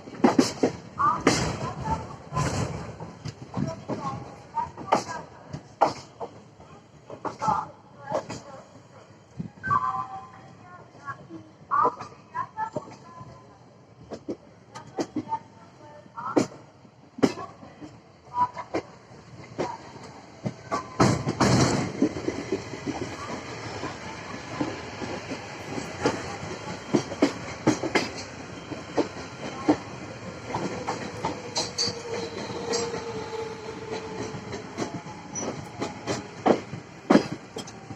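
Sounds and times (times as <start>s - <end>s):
loud rush of train: 0.0s - 37.9s
passenger train rumble: 0.0s - 37.9s.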